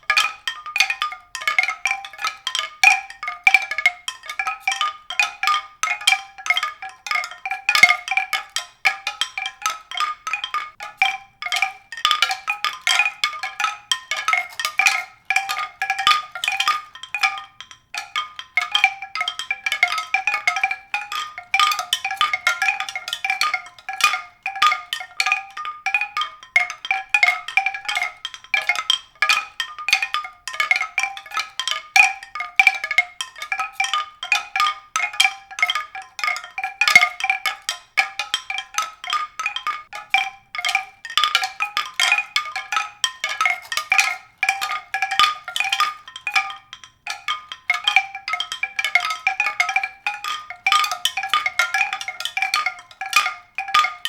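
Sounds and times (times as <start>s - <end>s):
mallet percussion music: 0.0s - 54.0s.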